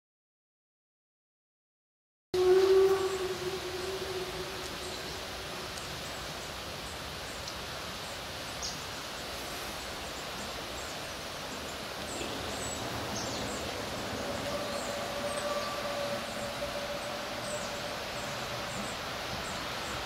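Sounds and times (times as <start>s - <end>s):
outdoor background noise: 2.4s - 20.0s.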